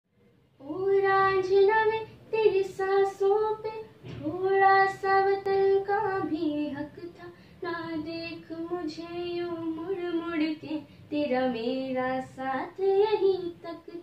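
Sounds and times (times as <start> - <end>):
girl singing slow song: 0.6 - 14.0.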